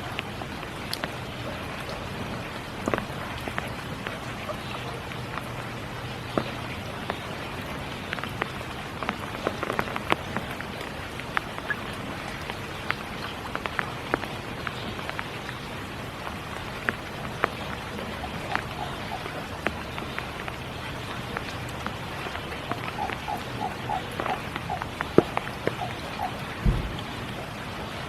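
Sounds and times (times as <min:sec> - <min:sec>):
rain falling: 0:00.0 - 0:28.0
raindrops striking surfaces: 0:00.0 - 0:28.0.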